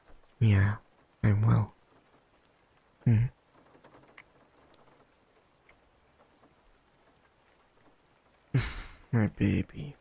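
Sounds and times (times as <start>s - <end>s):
soft patter: 0.0s - 8.5s
faint scattered ticks: 0.0s - 8.6s.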